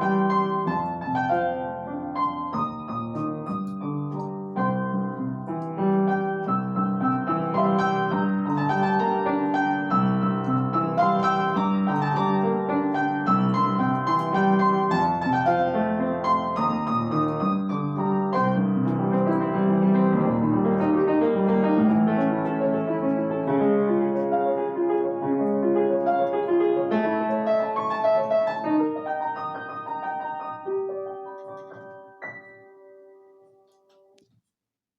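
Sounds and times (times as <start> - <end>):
gentle solo piano piece: 0.0 - 34.2.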